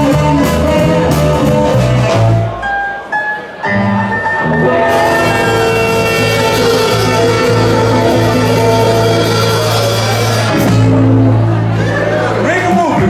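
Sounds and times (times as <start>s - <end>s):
bass line: 0.0s - 2.8s, 3.7s - 13.0s
electric guitar: 0.0s - 12.4s
drums: 0.0s - 13.0s.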